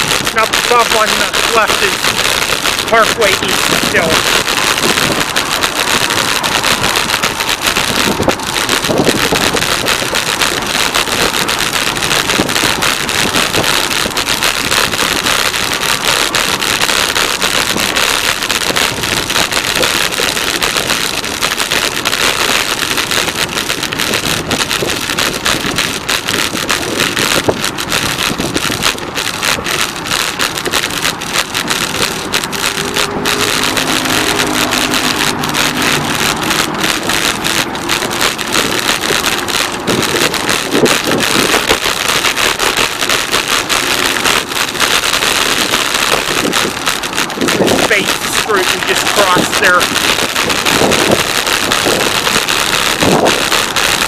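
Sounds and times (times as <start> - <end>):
wind buffeting microphone: 0.0 - 44.8, 45.4 - 54.0
highway traffic drone: 0.0 - 54.0.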